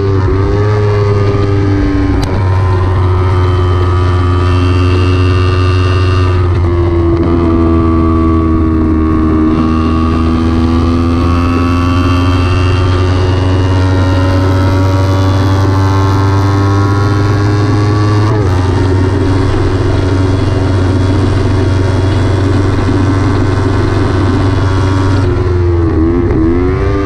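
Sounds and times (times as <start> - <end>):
motorcycle engine revving high: 0.0 - 27.0
steady low rumble: 0.0 - 27.0.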